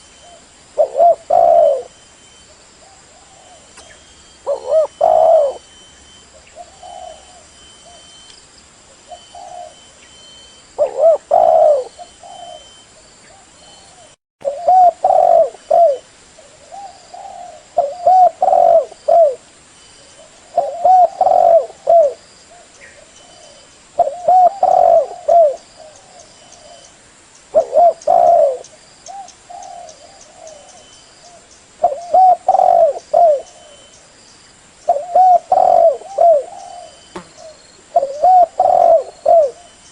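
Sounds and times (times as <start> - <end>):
dove cooing: 0.0 - 2.1, 2.8 - 8.1, 9.0 - 10.0, 10.8 - 19.4, 20.1 - 26.9, 27.5 - 33.9, 34.9 - 39.9.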